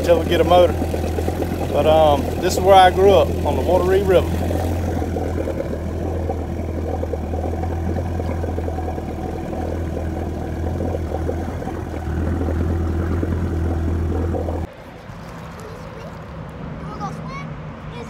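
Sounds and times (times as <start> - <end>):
boat engine droning: 0.0 - 15.6.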